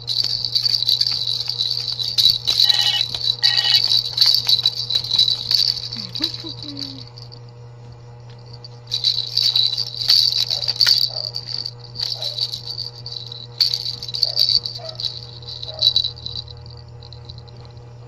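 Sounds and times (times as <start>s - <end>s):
baby rattle shaking: 0.0s - 7.3s, 8.4s - 17.6s.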